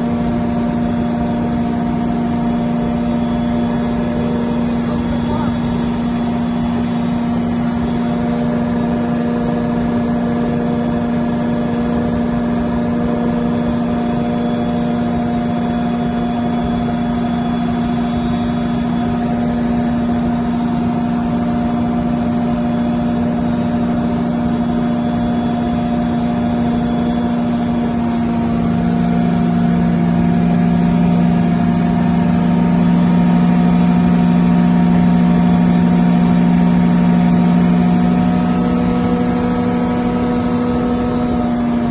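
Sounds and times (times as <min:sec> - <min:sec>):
generator running: 0:00.0 - 0:41.9
low tone: 0:00.0 - 0:41.9.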